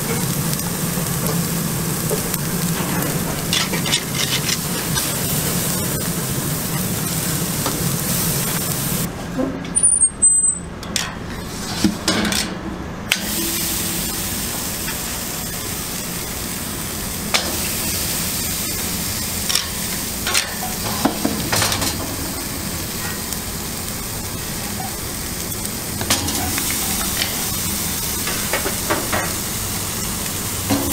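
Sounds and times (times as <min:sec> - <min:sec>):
steak sizzling on grill: 0:00.0 - 0:09.1, 0:13.2 - 0:30.9.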